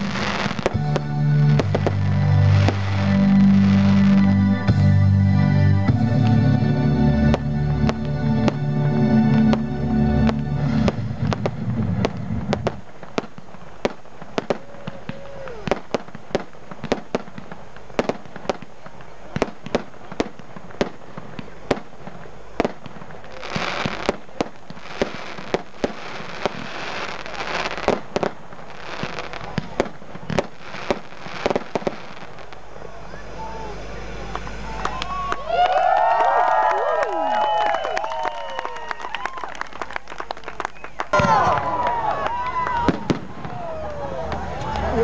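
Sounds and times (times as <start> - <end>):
fireworks bangs: 0.0 - 4.4, 7.3 - 45.0
dense fireworks crackling: 0.0 - 5.0, 5.9 - 45.0.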